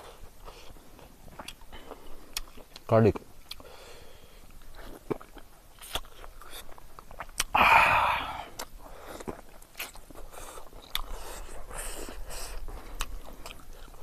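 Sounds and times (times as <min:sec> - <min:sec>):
person chewing with lip smacks: 0:00.4 - 0:03.7, 0:04.4 - 0:07.6, 0:08.5 - 0:14.0.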